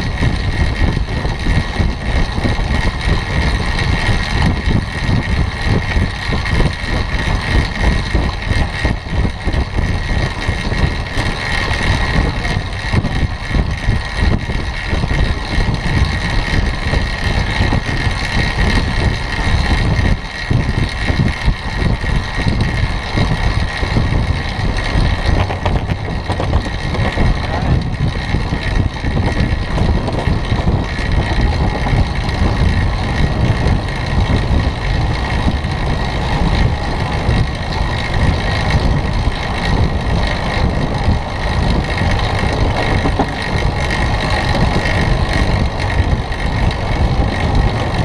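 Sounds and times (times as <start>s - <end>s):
tyres rumbling on wooden boards: 0.0s - 48.0s
wind rushing over microphone: 0.0s - 48.0s.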